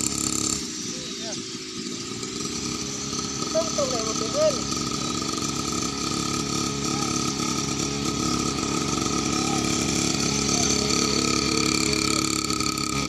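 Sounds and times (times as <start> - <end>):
high whine: 0.0 - 13.0
small motorcycle engine running: 0.0 - 13.0.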